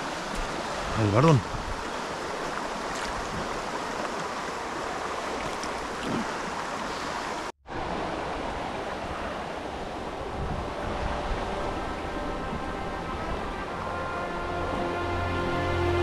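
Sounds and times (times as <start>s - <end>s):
mountain river rushing: 0.0s - 16.0s.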